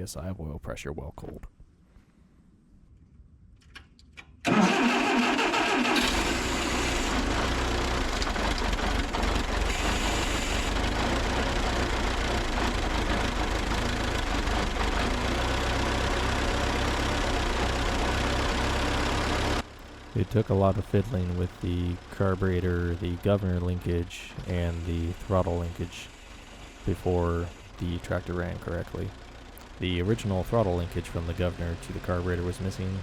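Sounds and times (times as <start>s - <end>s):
tractor engine starting and running: 4.2s - 33.0s.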